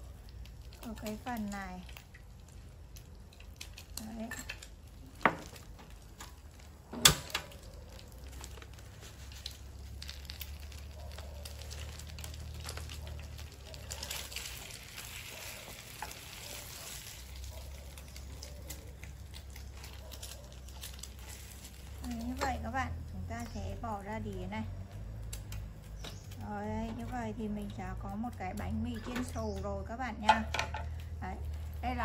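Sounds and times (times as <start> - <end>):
bread sizzling in oil: 0.0 - 29.0, 29.6 - 32.0.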